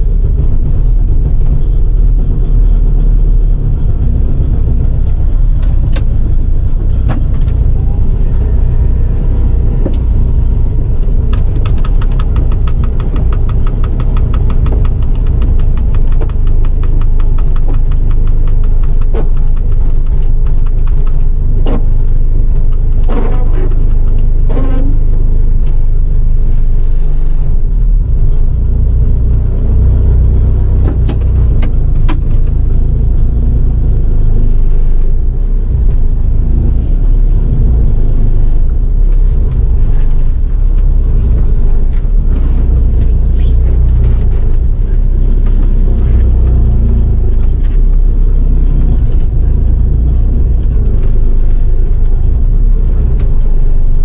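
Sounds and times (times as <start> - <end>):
van engine rumbling: 0.0 - 54.0.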